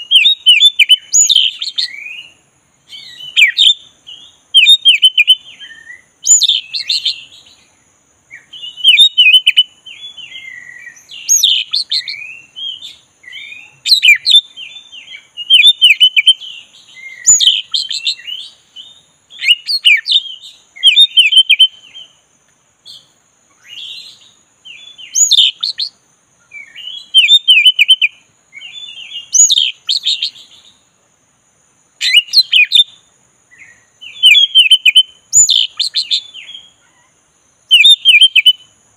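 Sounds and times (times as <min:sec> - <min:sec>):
bird singing whistled phrases: 0:00.0 - 0:07.6, 0:08.3 - 0:22.1, 0:22.9 - 0:30.7, 0:32.0 - 0:36.8, 0:37.7 - 0:38.7.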